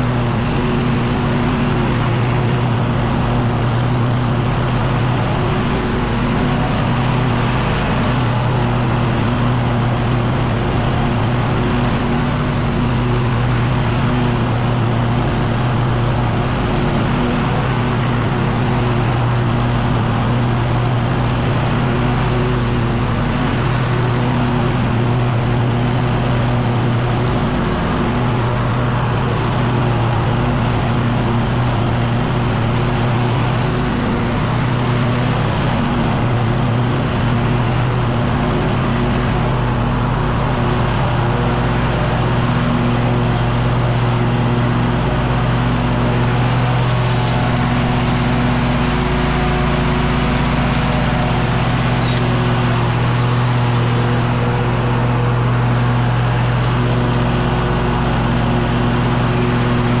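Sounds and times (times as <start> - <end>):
leaf blower running: 0.0 - 60.0.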